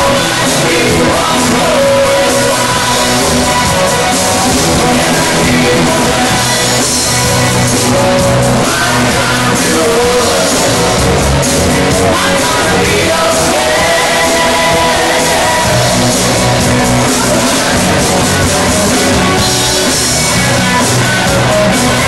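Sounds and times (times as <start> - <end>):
live rock band playing: 0.0 - 22.0
person singing: 0.0 - 22.0.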